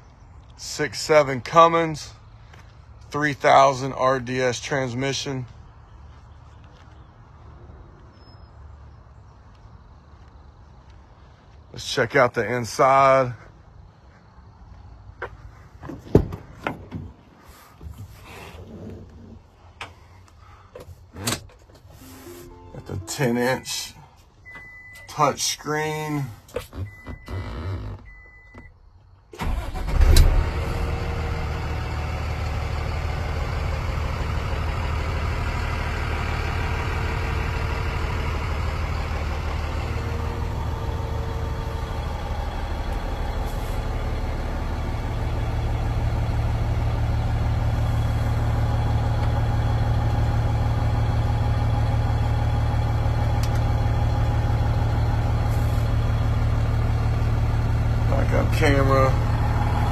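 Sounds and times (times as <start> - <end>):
diesel engine cranking and idling: 0.2 - 59.9.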